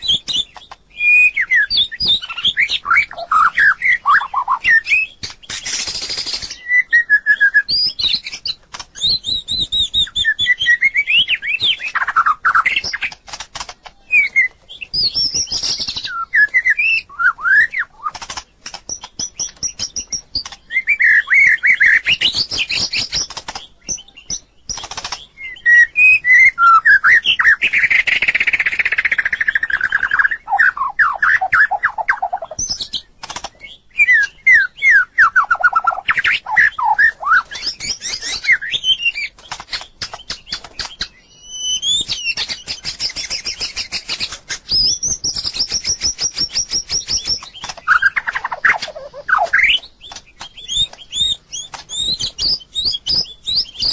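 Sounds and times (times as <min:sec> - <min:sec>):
sharp bird ticks: 0:00.0 - 0:06.7, 0:07.5 - 0:53.9
songbird singing whistled phrases: 0:00.0 - 0:13.2, 0:13.9 - 0:18.2, 0:18.8 - 0:53.9.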